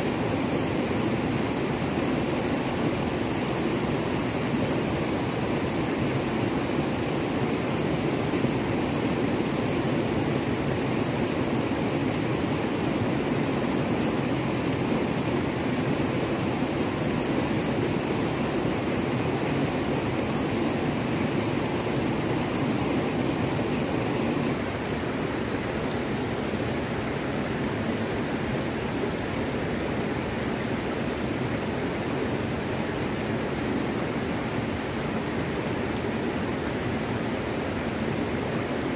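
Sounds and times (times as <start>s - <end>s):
river rapids over rocks: 0.0s - 38.9s.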